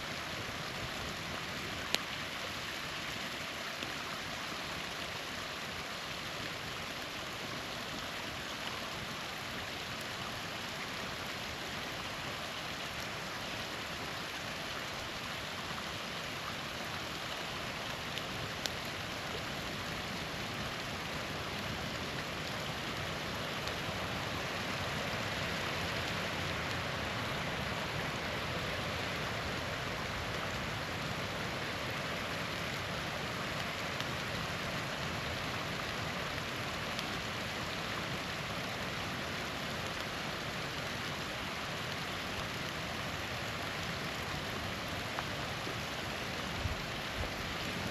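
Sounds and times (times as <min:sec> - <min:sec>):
small waterfall rushing: 0:00.0 - 0:47.9.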